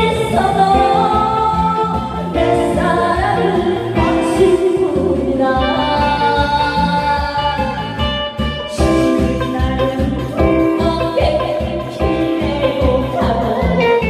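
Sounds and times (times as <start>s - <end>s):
women singing slow song: 0.0s - 14.0s.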